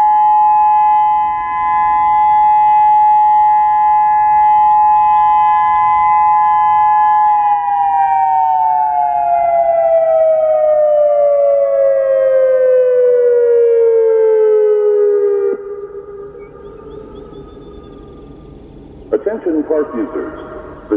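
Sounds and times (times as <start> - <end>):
electronic siren dual tone: 0.0 - 18.6.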